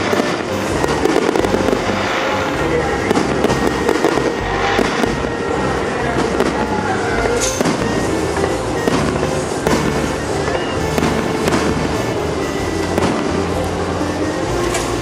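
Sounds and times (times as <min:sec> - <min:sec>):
fireworks bursting with sharp bangs: 0:00.0 - 0:15.0
music soundtrack: 0:00.0 - 0:15.0.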